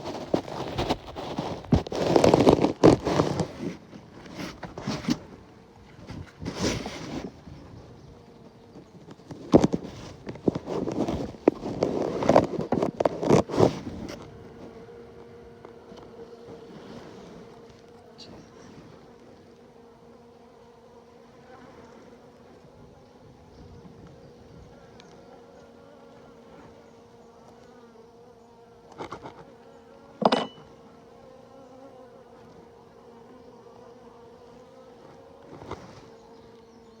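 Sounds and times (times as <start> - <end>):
honeybees buzzing: 0.0 - 37.0.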